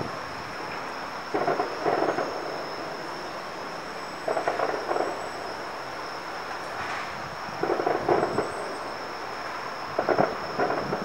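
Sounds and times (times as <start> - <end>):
distant fireworks bursting: 0.0 - 11.0.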